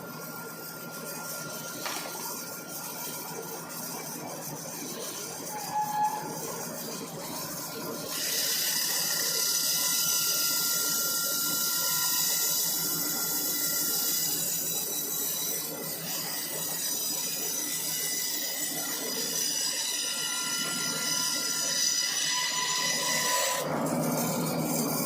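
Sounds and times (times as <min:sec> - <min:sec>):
band saw blade sawing log: 0:00.3 - 0:25.0.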